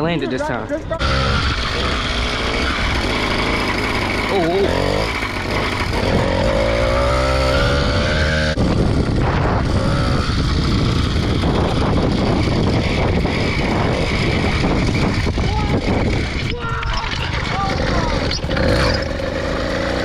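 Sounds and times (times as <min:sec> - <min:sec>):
motorized bicycle engine revving: 0:01.0 - 0:20.0.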